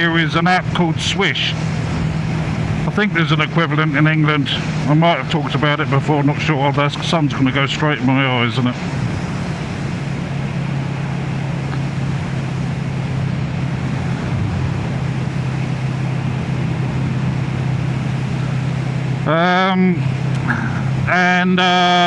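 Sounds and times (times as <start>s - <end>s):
motorcycle engine running: 0.0s - 21.2s
wind and road noise: 0.0s - 22.0s.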